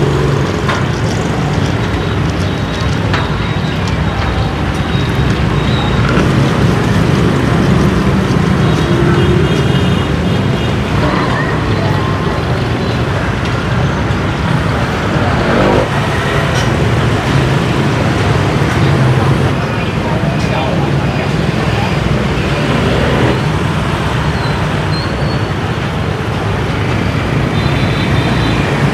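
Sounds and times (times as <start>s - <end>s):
street traffic rumble: 0.0s - 28.9s.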